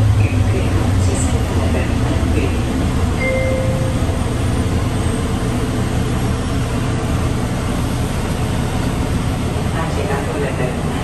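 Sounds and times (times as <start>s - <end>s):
people-mover car hum: 0.0s - 11.0s.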